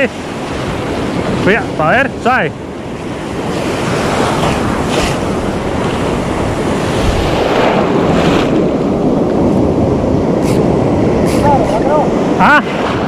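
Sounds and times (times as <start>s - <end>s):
surf breaking and washing: 0.0s - 13.0s
wind buffeting microphone: 0.0s - 13.0s.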